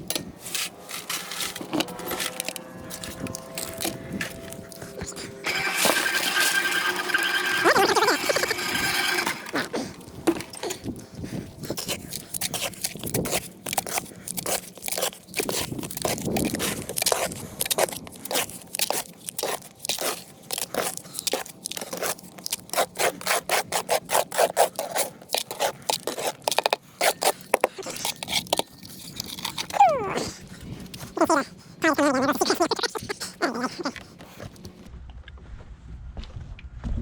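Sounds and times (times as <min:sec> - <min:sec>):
hand tool scraping wet concrete: 0:00.1 - 0:30.2.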